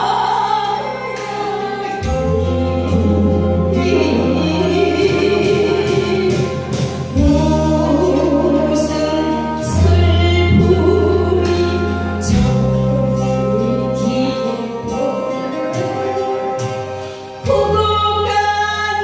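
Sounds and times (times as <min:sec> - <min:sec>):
woman singing into microphone: 0:00.0 - 0:19.0.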